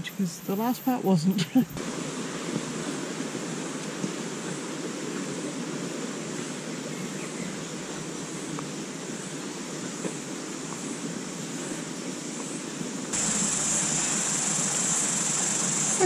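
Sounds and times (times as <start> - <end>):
steady rushing noise: 0.4 - 16.0.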